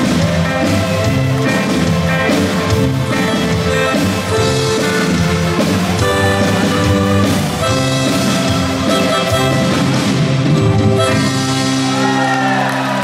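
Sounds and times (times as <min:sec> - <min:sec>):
guitar: 0:00.0 - 0:13.0
live band playing dance music: 0:00.0 - 0:13.0.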